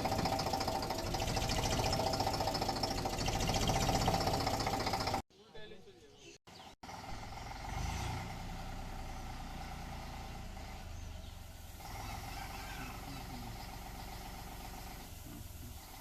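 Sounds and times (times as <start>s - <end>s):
harvester engine drone: 0.0s - 5.2s, 6.9s - 16.0s.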